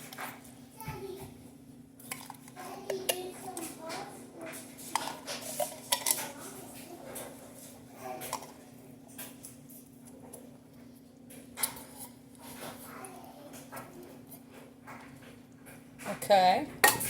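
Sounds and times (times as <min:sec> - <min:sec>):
utensils and dishes clinking: 0:02.0 - 0:17.0.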